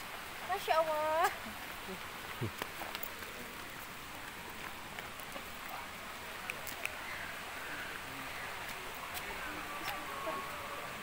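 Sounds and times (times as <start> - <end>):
stream flowing over rocks: 0.0 - 11.0
faint distant voices: 0.5 - 11.0.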